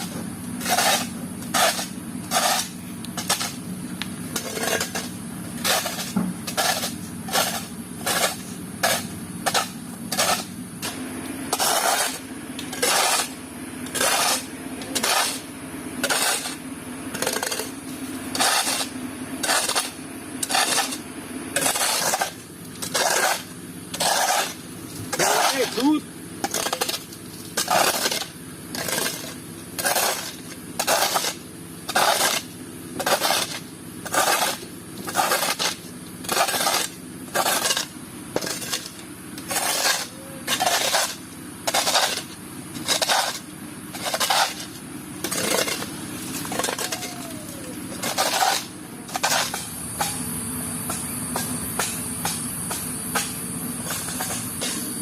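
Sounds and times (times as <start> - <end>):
steel tool scraping wet concrete: 0.6 - 50.2.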